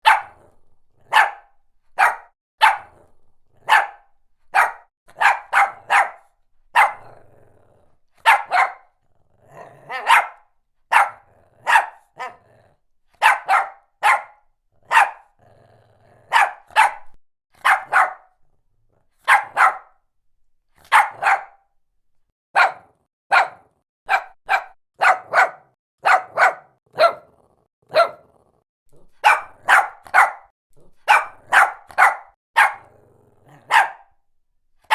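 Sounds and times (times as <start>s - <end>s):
dog barking: 0.0s - 0.4s, 1.0s - 3.0s, 3.6s - 7.3s, 8.2s - 9.0s, 9.6s - 15.4s, 16.2s - 18.4s, 19.1s - 20.0s, 20.8s - 21.7s, 22.5s - 28.3s, 29.0s - 34.2s.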